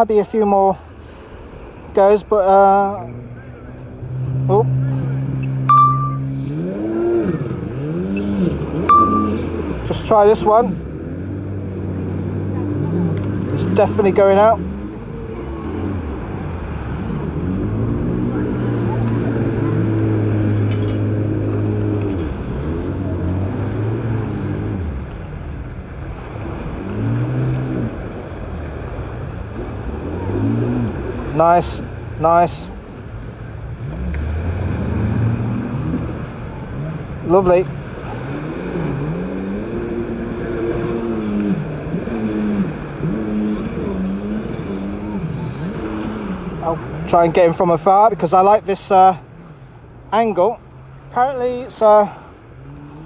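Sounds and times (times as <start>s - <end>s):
jet ski engine: 0.0s - 53.0s.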